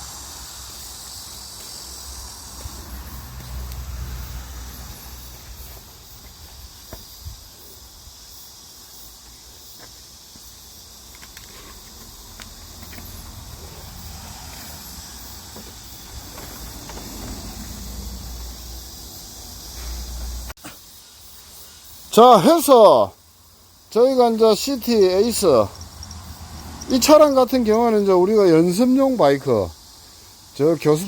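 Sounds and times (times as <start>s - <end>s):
high-pitched hiss: 0.0s - 31.0s.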